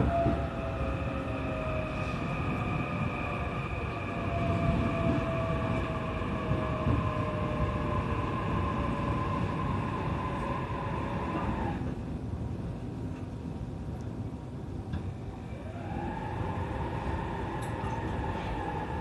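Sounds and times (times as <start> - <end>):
electric train motors whining: 0.0 - 12.0, 15.3 - 19.0
wheels rumbling on track: 0.0 - 13.4, 14.8 - 19.0.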